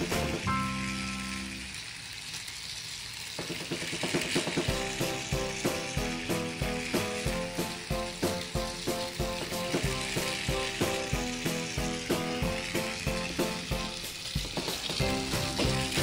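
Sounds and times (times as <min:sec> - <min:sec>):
toy train clicking on track: 0:00.0 - 0:16.0
toy train motor whirring: 0:00.0 - 0:16.0.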